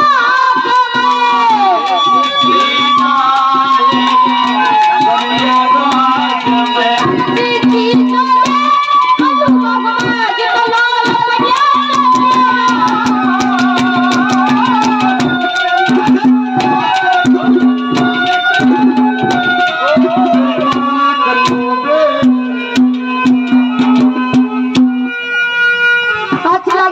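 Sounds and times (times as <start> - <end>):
rapid hand drum strokes: 0.0 - 25.2
harmonium melody: 0.0 - 26.9.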